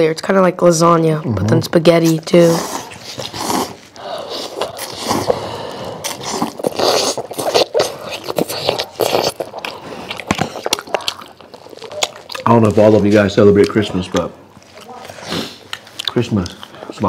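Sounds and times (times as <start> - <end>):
spaghetti slurping and chewing: 2.0 - 17.0.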